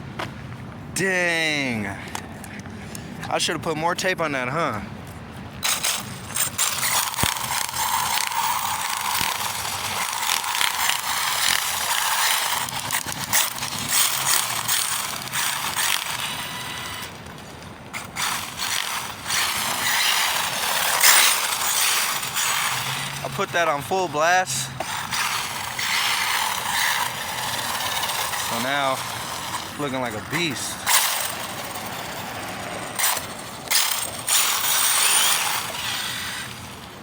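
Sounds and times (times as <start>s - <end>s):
tyres scraping on asphalt: 1.6s - 37.0s
rc car motor whirring: 5.6s - 37.0s.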